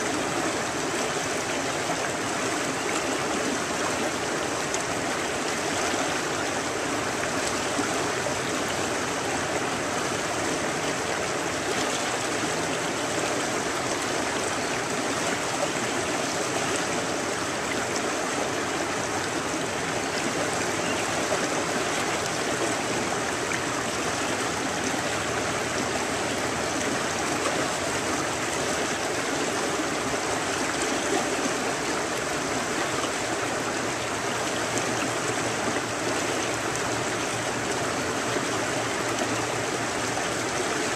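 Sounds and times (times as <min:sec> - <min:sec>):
river flowing over riffles: 0:00.0 - 0:40.9.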